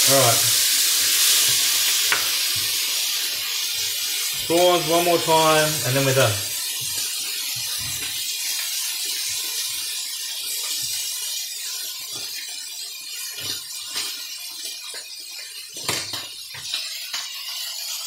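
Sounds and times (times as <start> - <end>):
seafood sizzling in a grill pan: 0.0 - 18.0.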